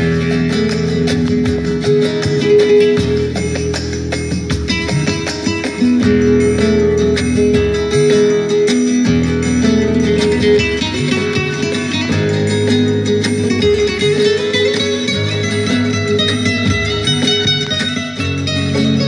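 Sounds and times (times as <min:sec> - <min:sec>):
flamenco acoustic guitar music: 0:00.0 - 0:19.0.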